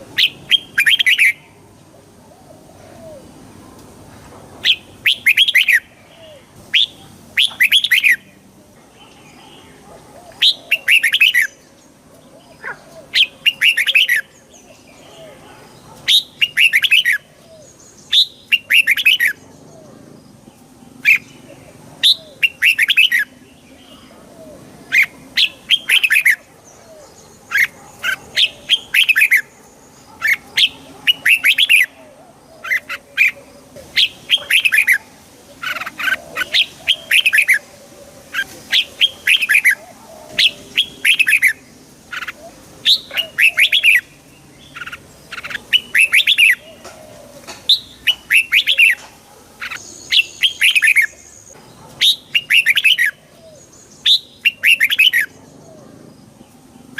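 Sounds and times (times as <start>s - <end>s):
bird singing: 0.0s - 3.8s, 4.6s - 56.9s.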